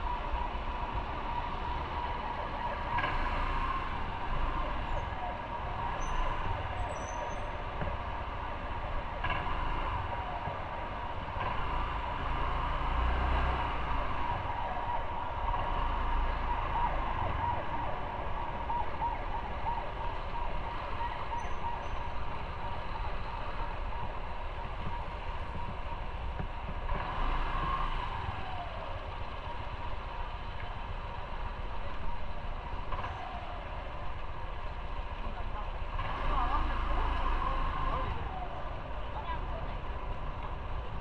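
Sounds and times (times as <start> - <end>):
motorcycle running at low speed: 0.0 - 41.0.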